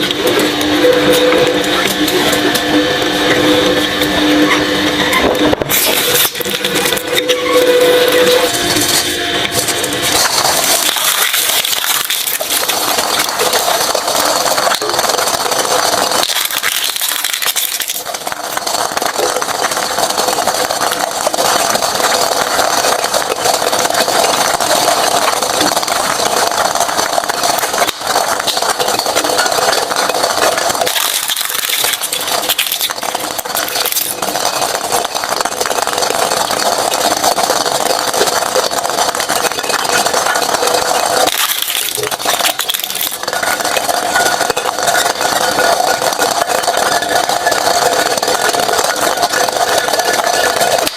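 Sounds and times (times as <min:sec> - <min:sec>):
shredding machine grinding: 0:00.0 - 0:50.9.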